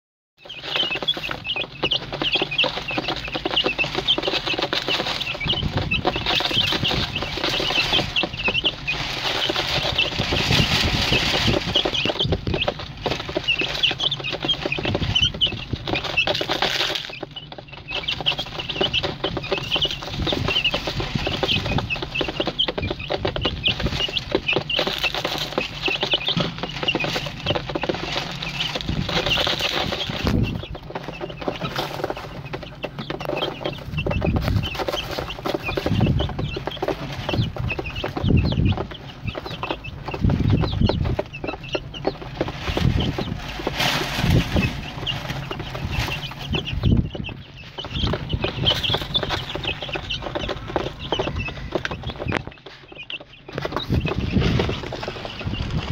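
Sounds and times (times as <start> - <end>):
beaks tapping on plastic tray: 0.4 - 55.9
chicks peeping: 0.4 - 55.9.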